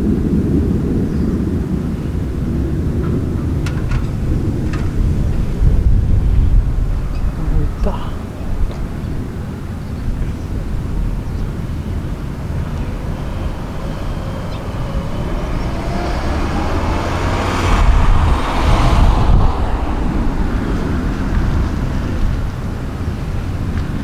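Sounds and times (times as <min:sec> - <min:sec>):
passing vehicle rumble: 0:00.0 - 0:24.0.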